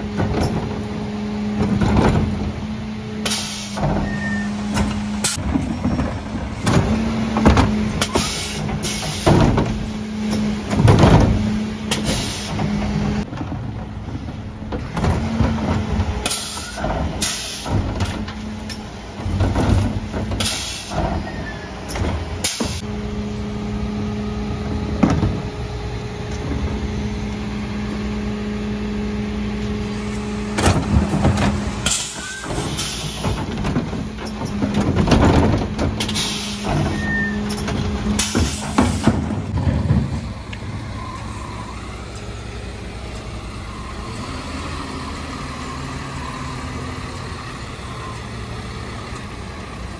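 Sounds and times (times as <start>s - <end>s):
truck engine humming: 0.0s - 49.9s.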